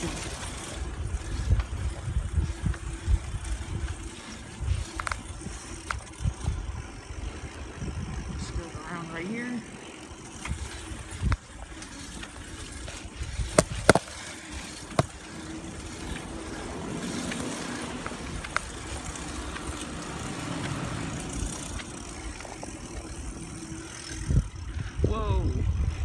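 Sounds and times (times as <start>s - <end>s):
wind rumble on microphone: 0.0s - 9.5s, 10.1s - 26.0s
bicycle tyres rolling on pavement: 0.0s - 26.0s.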